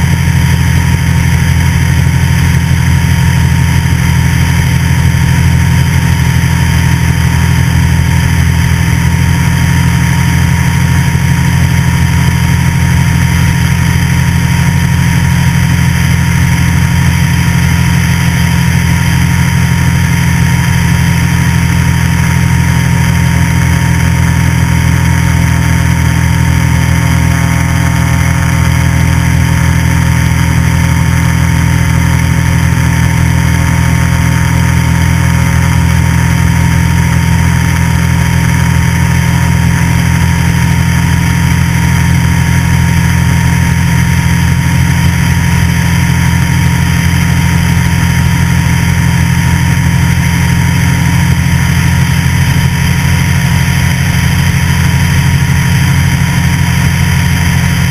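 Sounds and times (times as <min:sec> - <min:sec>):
light aircraft engine and propeller: 0:00.0 - 0:57.9.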